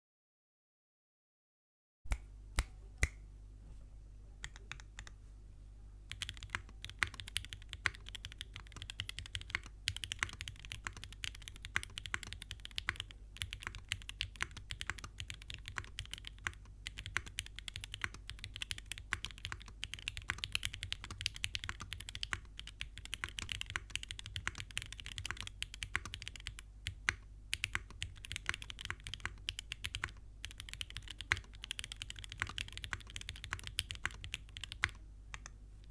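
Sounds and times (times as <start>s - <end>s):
mechanical keyboard typing: 6.1s - 35.5s.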